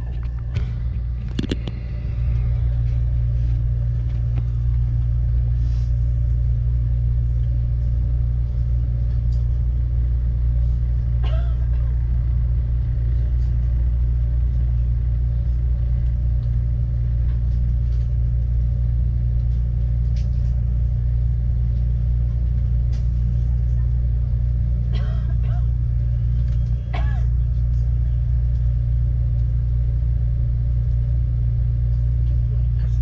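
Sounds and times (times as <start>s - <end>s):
stationary train hum and rumble: 0.0s - 33.0s.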